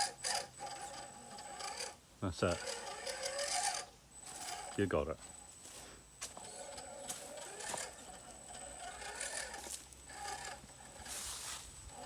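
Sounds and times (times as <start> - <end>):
toy car motor whirring: 0.0 - 5.0, 6.3 - 12.0.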